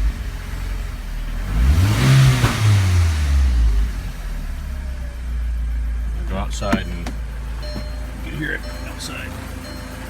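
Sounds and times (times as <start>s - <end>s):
car engine idling: 0.0s - 10.0s
engine revving: 0.0s - 10.0s.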